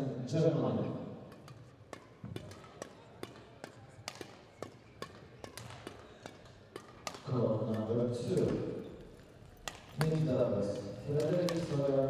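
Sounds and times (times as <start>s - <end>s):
faint hall background: 0.0s - 12.0s
badminton rackets striking shuttlecocks: 1.2s - 12.0s.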